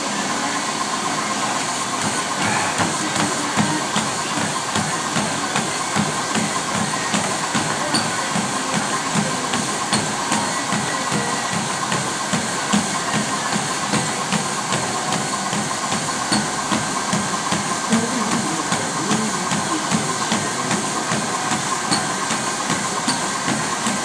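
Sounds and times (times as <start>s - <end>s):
treadmill motor hiss and hum: 0.0s - 24.0s
footfalls on treadmill belt: 1.6s - 24.0s.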